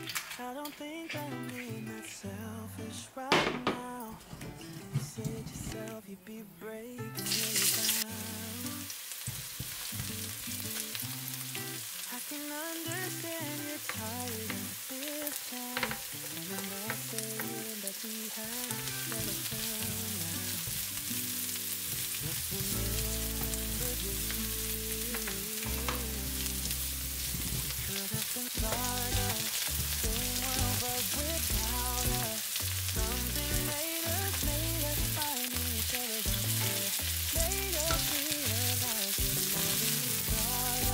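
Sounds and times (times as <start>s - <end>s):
onion sizzling in hot oil: 0.0s - 2.0s, 7.0s - 40.9s.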